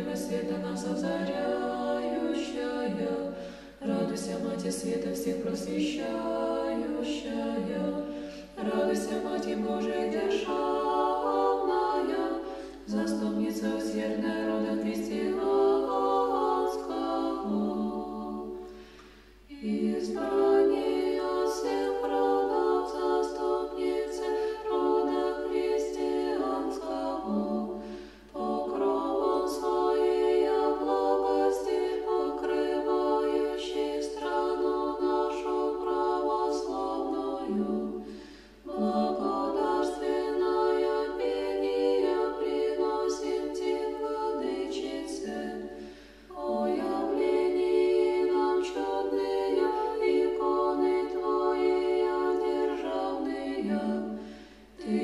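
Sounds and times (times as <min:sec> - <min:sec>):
choir singing chant: 0:00.0 - 0:55.0.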